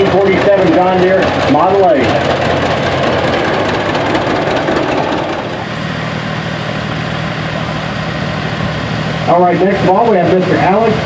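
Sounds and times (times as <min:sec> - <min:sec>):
steady tractor engine hum: 0:00.0 - 0:11.0
tractor engine running: 0:00.0 - 0:11.0.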